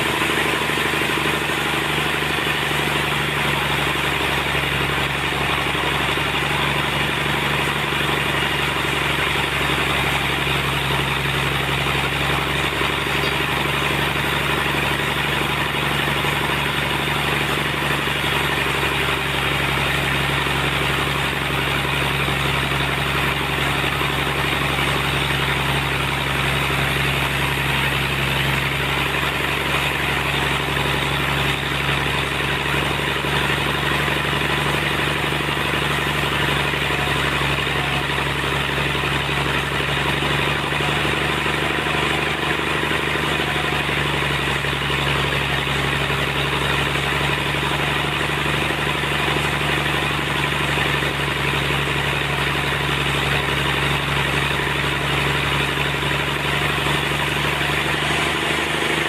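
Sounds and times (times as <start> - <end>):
sawmill machine hum: 0.0 - 59.0.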